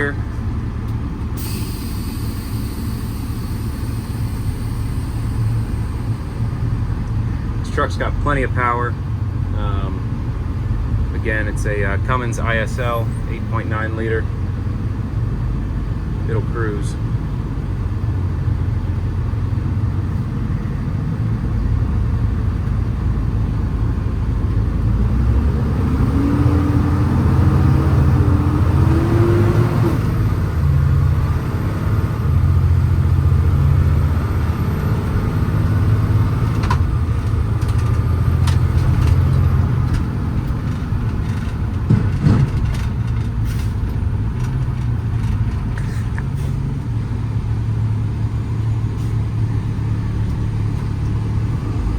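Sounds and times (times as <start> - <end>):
diesel truck engine droning: 0.0 - 51.9.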